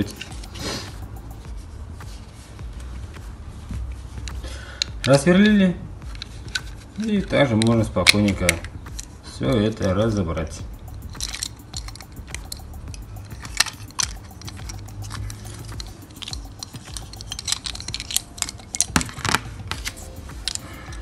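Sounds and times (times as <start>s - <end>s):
toy car parts clicking and rattling: 0.0s - 1.4s, 4.8s - 21.0s.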